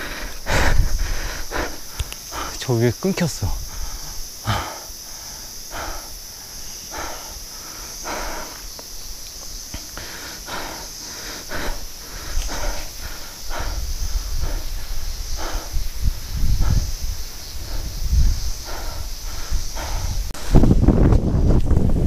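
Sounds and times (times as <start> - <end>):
wind buffeting microphone: 0.0 - 2.5, 3.2 - 9.1, 10.5 - 22.0
insects droning: 0.0 - 22.0.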